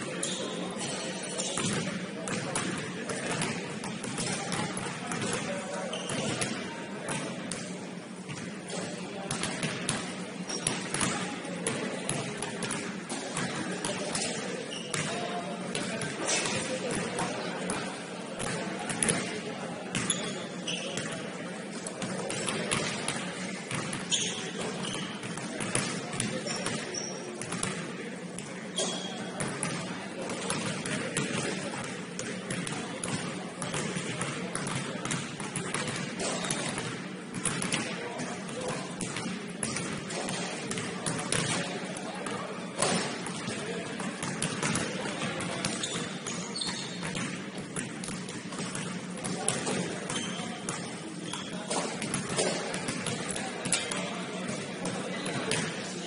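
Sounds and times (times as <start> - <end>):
basketballs bouncing on wooden floor: 1.6 - 7.6, 8.3 - 17.8, 19.9 - 21.1, 22.0 - 27.8, 28.8 - 29.8, 30.4 - 37.9, 38.5 - 41.7, 42.8 - 55.7.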